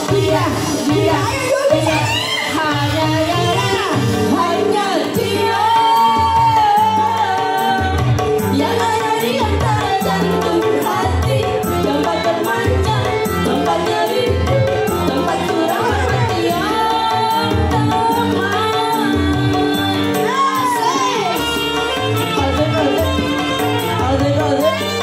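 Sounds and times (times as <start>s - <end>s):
bass: 0.0s - 25.0s
keyboard backing: 0.0s - 25.0s
women singing into microphones: 0.0s - 25.0s.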